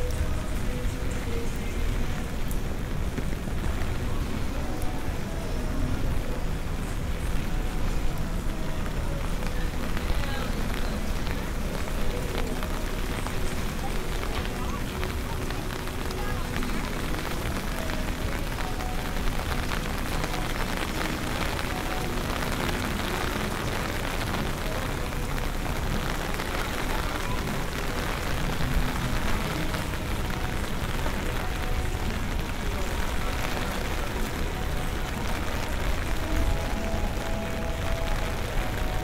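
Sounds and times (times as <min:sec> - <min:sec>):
rain falling on pavement: 0:00.0 - 0:39.0.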